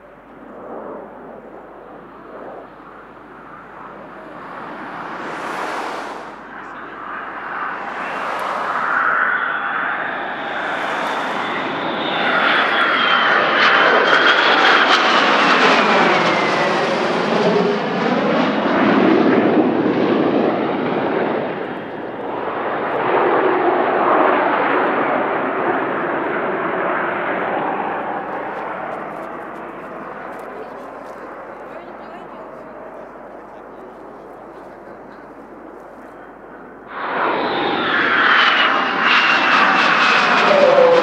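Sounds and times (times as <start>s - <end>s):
jet flying past overhead: 0.0s - 41.0s.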